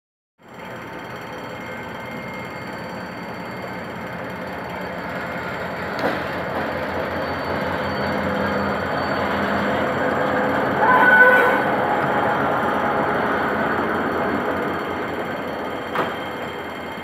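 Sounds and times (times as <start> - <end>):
diesel locomotive engine working: 0.4 - 17.0.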